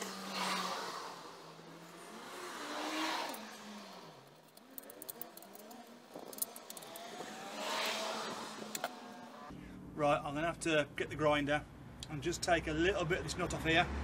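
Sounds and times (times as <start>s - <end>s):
vehicles passing by: 0.0s - 14.0s.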